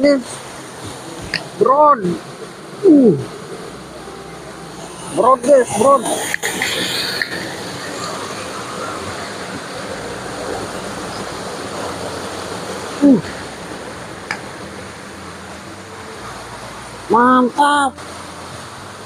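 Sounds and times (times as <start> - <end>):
stream water over rocks: 0.0 - 19.0.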